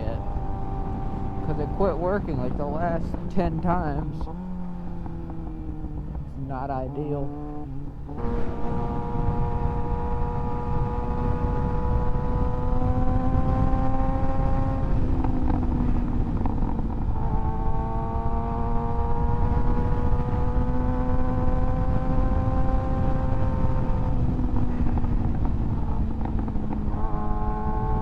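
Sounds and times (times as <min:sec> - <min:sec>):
motorcycle engine running: 0:00.0 - 0:28.0
wind rumble on microphone: 0:00.0 - 0:28.0.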